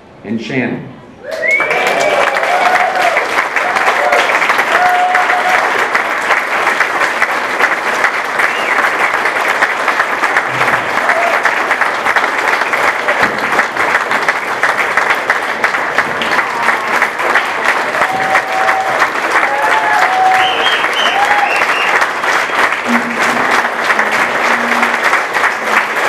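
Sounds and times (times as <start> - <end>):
crowd applauding: 1.2 - 26.0.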